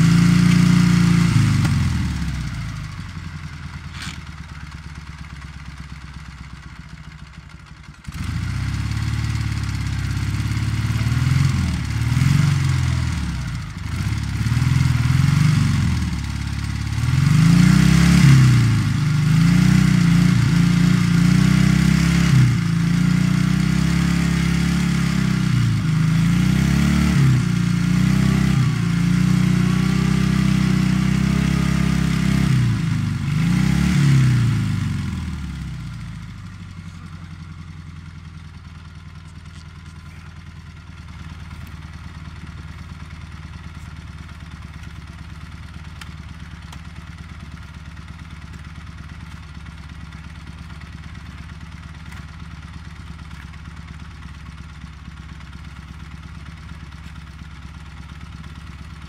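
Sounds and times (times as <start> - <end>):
motorcycle engine idling: 0.0 - 59.0
motorcycle engine revving: 0.0 - 59.0.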